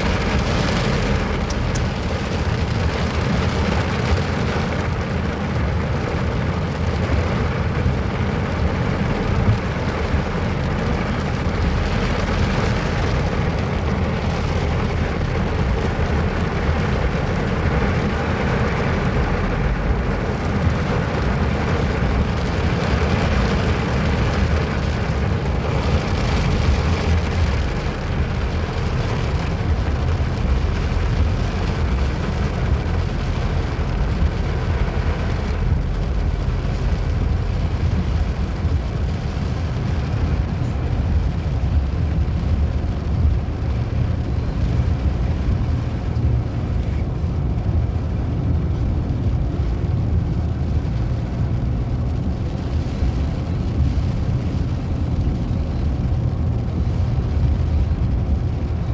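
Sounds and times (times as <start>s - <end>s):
deep rumble: 0.0s - 58.9s
steady rain: 0.0s - 58.9s.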